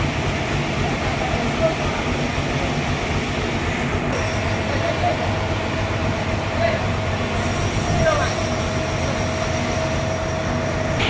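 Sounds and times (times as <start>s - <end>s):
sawmill machinery running: 0.0s - 11.0s.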